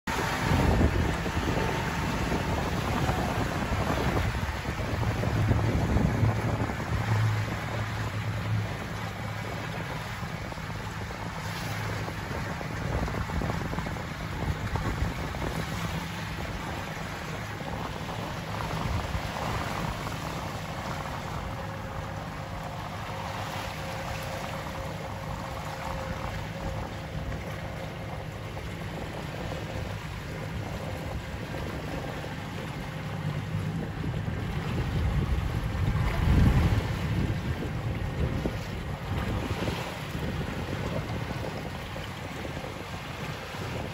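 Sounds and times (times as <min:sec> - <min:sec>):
motorboat under way: 0:00.0 - 0:43.9
wind noise on microphone: 0:00.1 - 0:43.9.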